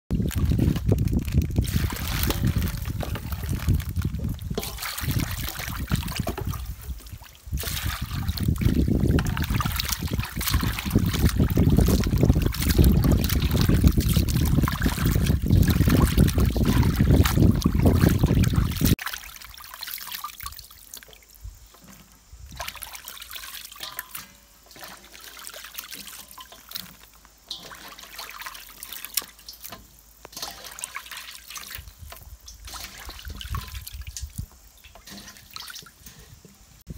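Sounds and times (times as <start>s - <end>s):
water dripping: 0.1s - 36.8s
water splashing in metal bowl: 0.1s - 36.9s.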